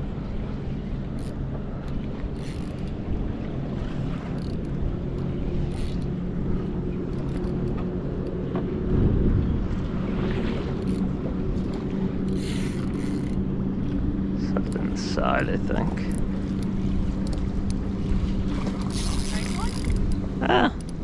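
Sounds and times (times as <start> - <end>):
boat engine idling: 0.0 - 21.0
wind rumble on microphone: 0.0 - 21.0.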